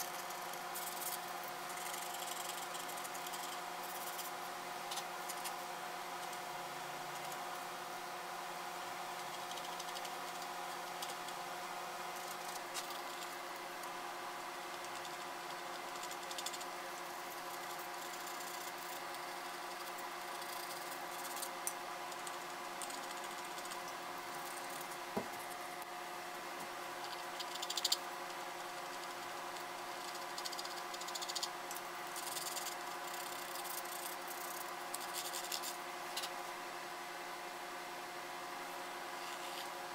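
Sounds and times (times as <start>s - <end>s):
background hum: 0.0s - 39.9s.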